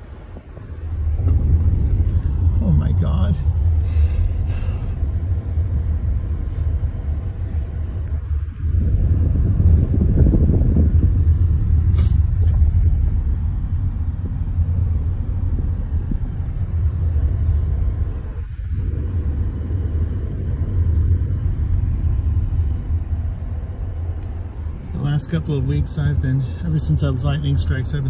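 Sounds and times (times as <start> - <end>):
car driving on road: 0.0 - 28.0.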